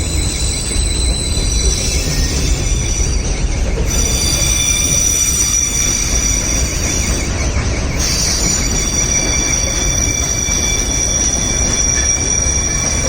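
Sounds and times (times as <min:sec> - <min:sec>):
steel wheels squealing: 0:00.0 - 0:13.0.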